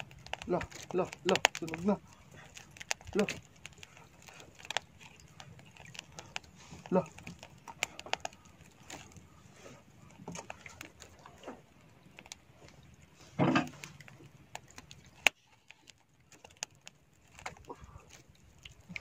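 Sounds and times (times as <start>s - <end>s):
faint clicks and taps: 0.0s - 9.4s, 10.0s - 19.0s.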